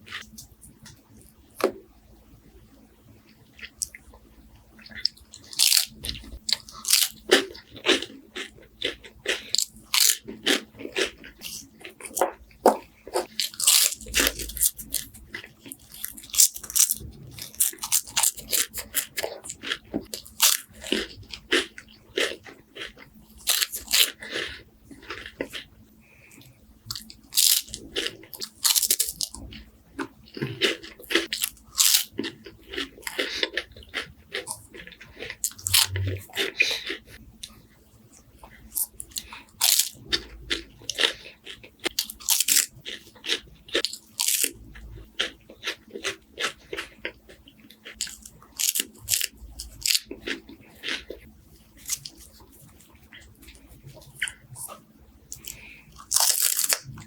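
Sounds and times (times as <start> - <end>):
crunching crispy wafers: 4.9 - 37.6, 38.6 - 57.0.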